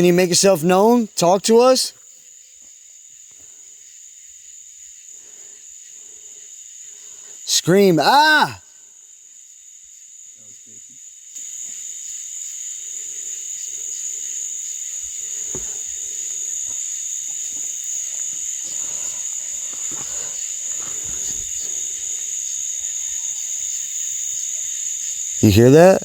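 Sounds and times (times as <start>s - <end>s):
crickets droning: 0.0s - 26.0s.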